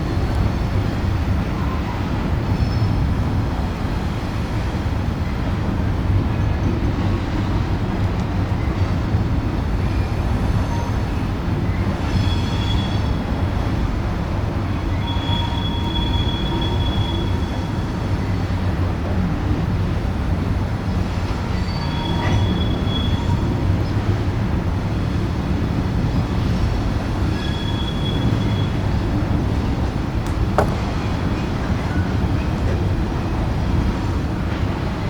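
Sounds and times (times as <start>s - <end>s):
train cars rumbling: 0.0s - 35.0s.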